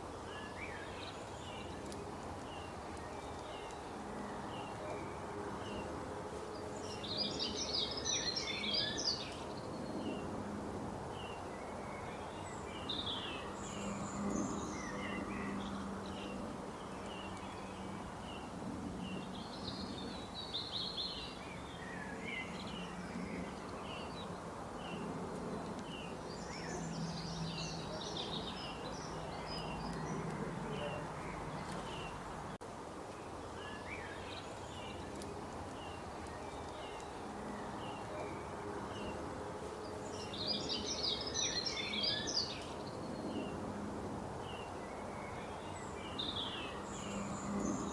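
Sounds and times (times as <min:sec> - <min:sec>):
birds chirping: 0:00.0 - 0:10.4, 0:11.1 - 0:43.6
steady background hiss: 0:00.0 - 0:47.9.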